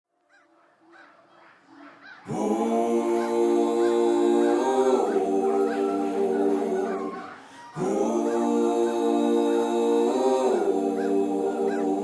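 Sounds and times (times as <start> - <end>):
choir-like synth chords: 2.3 - 12.0.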